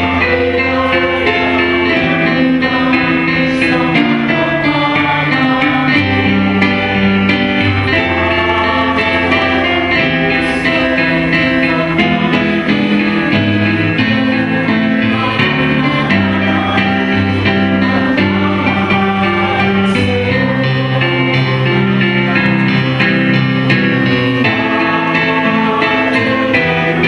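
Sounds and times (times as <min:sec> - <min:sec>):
keyboard chords with bass line: 0:00.0 - 0:27.0
people singing: 0:00.0 - 0:27.0.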